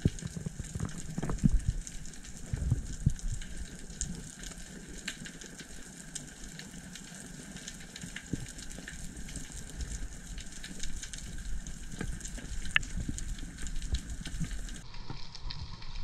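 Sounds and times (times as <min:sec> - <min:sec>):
low rumble of moving water: 0:00.0 - 0:16.0.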